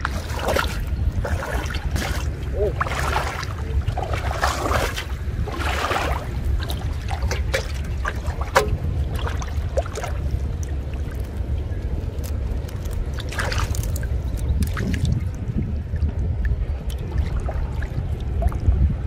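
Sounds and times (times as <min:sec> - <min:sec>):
water drips and clicks: 0:00.0 - 0:18.8
shallow water splashing: 0:00.0 - 0:19.0
wind rumble on microphone: 0:00.0 - 0:19.0.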